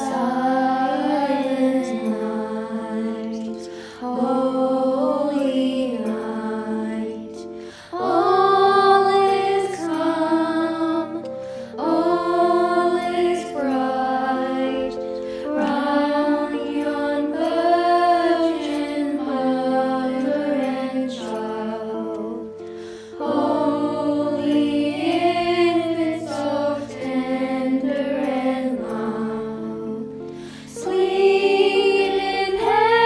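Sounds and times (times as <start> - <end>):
sustained instrumental chords: 0.0 - 33.0.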